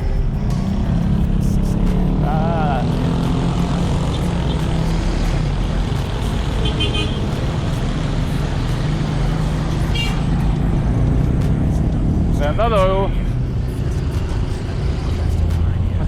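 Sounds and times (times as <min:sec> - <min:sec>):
vehicle engines running: 0:00.0 - 0:16.0
wind and road noise: 0:00.0 - 0:16.0.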